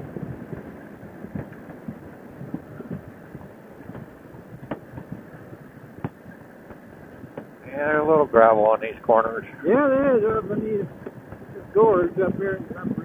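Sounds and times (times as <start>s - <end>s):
soft low thumps: 0.0s - 8.3s, 9.1s - 13.0s
motorcycle road noise: 0.0s - 13.0s
wind rush: 0.0s - 13.0s.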